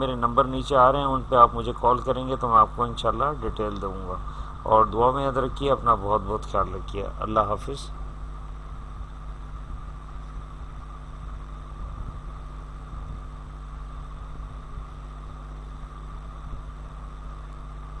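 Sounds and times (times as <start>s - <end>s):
constant hiss: 0.0s - 18.0s
low hum: 0.0s - 18.0s.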